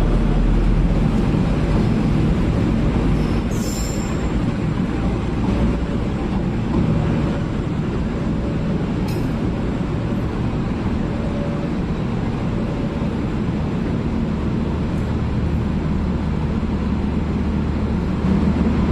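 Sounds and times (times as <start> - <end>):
diesel train rumbling past: 0.0 - 18.9.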